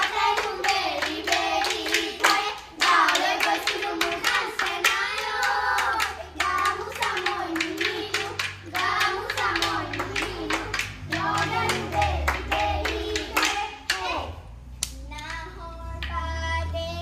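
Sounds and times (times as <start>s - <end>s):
hand-clapping: 0.0s - 14.2s
voices singing: 0.0s - 14.6s.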